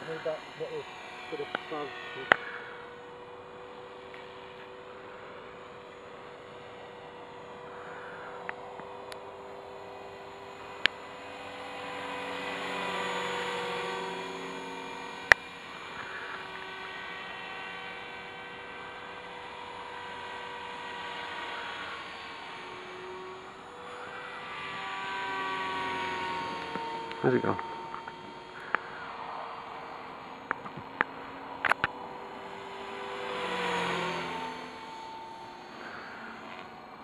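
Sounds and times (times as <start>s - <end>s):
rc helicopter motor whine: 0.0s - 37.0s.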